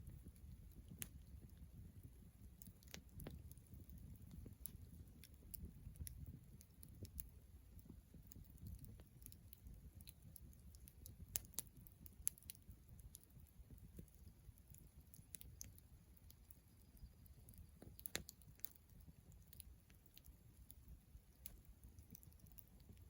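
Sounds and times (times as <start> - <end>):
campfire crackling: 0.0 - 23.0
sharp snaps and pops: 0.0 - 23.0.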